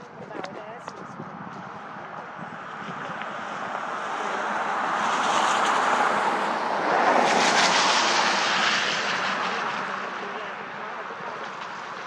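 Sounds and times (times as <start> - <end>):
vehicle passing by: 0.0 - 12.0.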